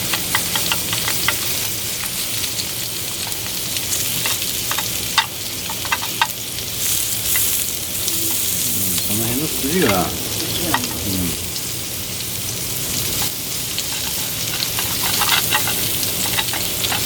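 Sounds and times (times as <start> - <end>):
steak sizzling: 0.0 - 17.0.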